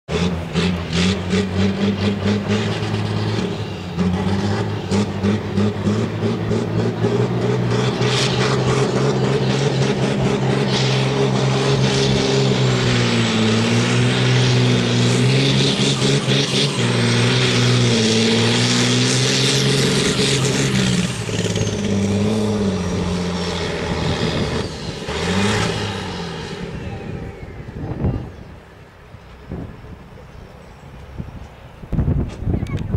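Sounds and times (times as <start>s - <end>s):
tractor diesel engine under heavy load: 0.0s - 32.9s.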